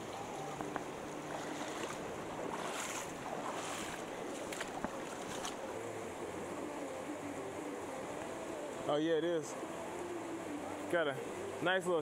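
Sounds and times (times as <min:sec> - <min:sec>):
shallow river rushing over rocks: 0:00.0 - 0:12.0.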